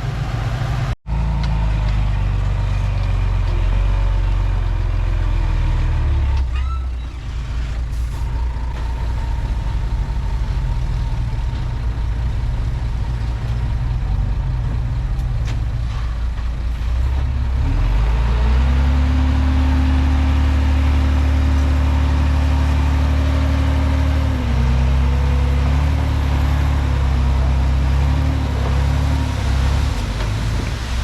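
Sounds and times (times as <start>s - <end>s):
bulldozer diesel engine revving: 0.0s - 31.0s.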